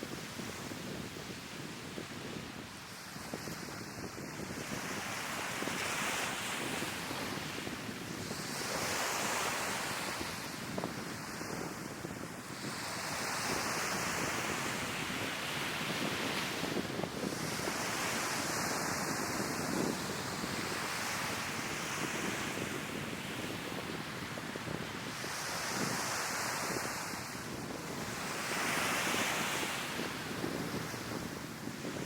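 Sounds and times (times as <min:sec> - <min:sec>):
wind on microphone: 0:00.0 - 0:32.0.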